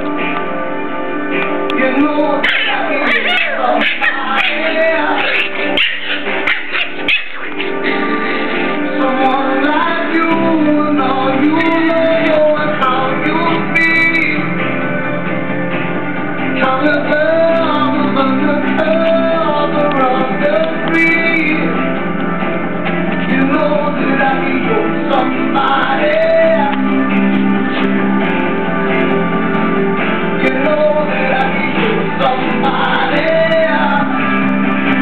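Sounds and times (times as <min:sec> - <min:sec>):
song with singing voice: 0:00.0 - 0:35.0.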